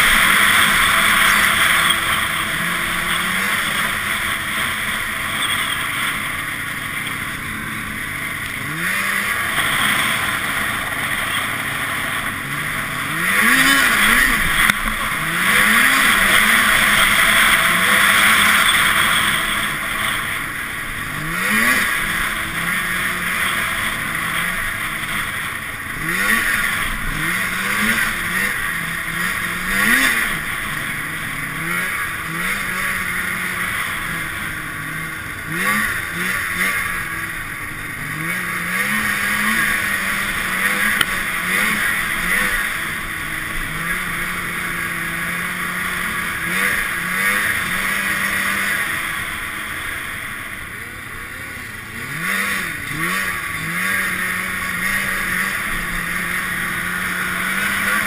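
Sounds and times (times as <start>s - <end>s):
snowmobile engine revving: 0.0s - 58.0s
steady rushing noise: 0.0s - 58.0s.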